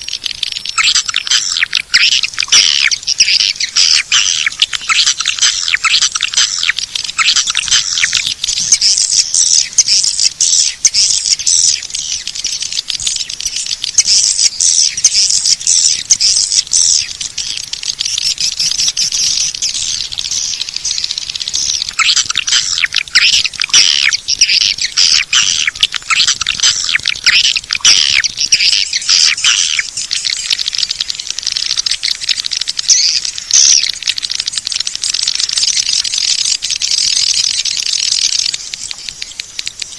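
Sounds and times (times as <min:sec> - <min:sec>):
swiftlets twittering and chirping: 0:00.0 - 0:39.9.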